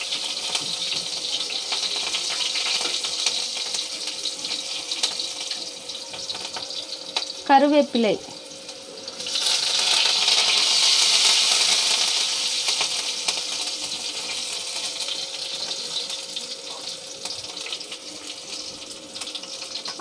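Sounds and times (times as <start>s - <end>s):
leaves sizzling in hot oil: 0.0s - 20.0s.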